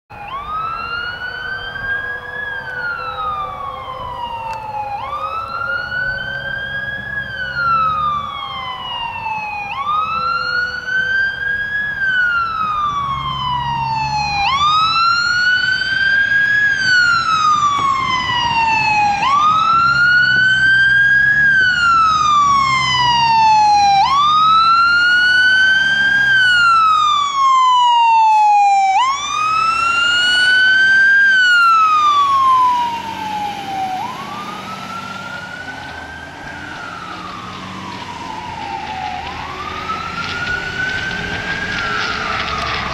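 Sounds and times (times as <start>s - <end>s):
fire engine siren wailing: 0.1s - 42.9s.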